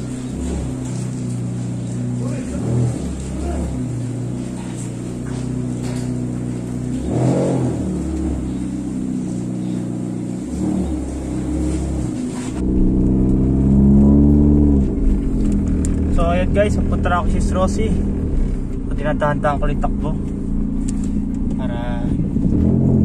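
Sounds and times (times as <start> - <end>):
car engine accelerating: 0.0 - 23.0
car exhaust revving: 0.0 - 23.0.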